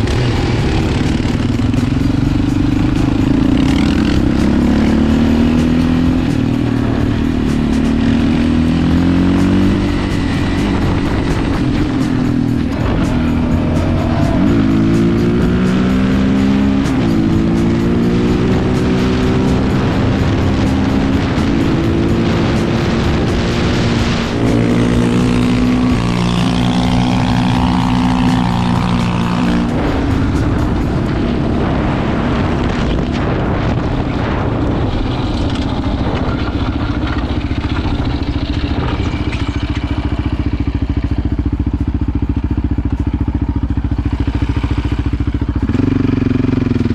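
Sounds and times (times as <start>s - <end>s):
quad engine pulling hard: 0.0s - 46.9s.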